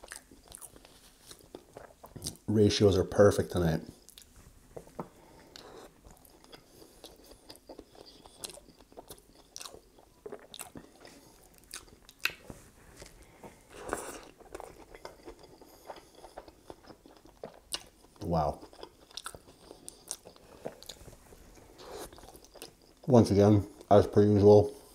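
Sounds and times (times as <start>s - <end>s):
wet chewing: 0.0s - 2.5s, 3.9s - 23.1s.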